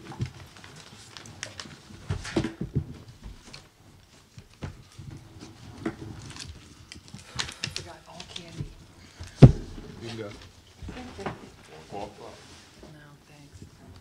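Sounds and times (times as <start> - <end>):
papers rustling: 0.0 - 12.9.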